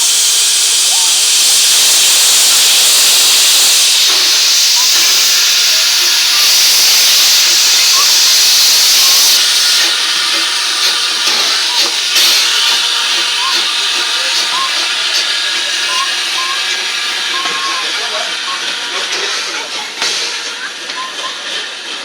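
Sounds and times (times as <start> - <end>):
steam locomotive hissing steam: 0.0 - 22.0.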